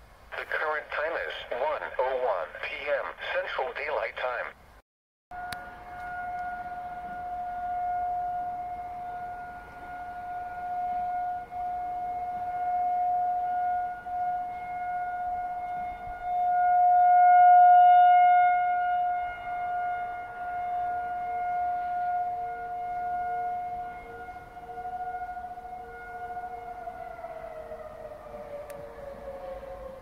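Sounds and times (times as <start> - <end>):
tornado warning siren: 0.0 - 4.0, 5.3 - 30.0
fainter lower-pitched siren: 5.3 - 30.0.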